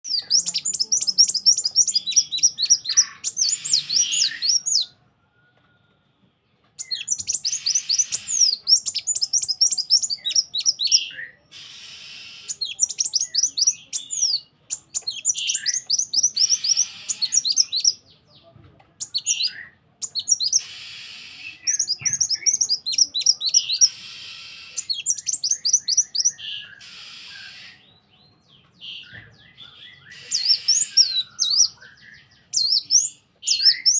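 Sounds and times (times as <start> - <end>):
songbird chirping and rasping: 0.0 - 33.9.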